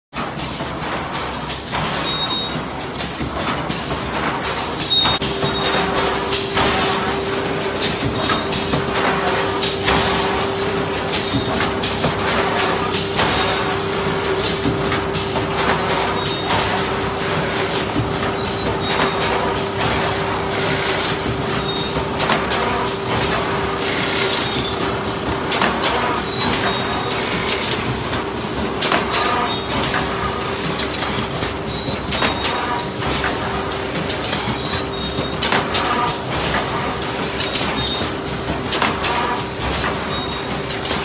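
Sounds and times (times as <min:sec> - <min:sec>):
machine clattering: 0:00.2 - 0:41.0
steady machine hum: 0:02.4 - 0:41.0.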